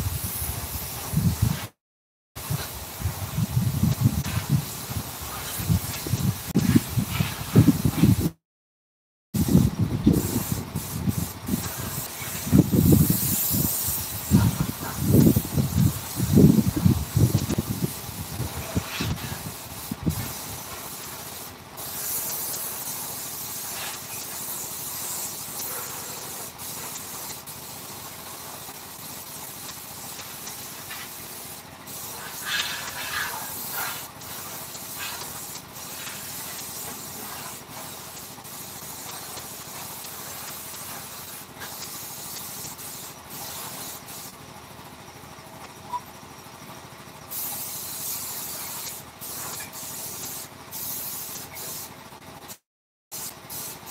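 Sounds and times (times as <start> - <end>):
hiss of air spray: 0.0 - 1.8, 2.4 - 8.4, 9.4 - 44.4, 47.3 - 53.9.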